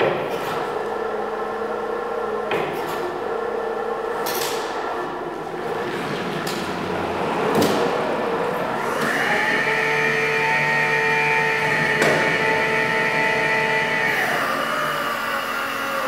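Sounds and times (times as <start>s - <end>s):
electric forklift motor hum: 0.0s - 16.0s
hydraulic pump motor whine: 0.0s - 16.0s.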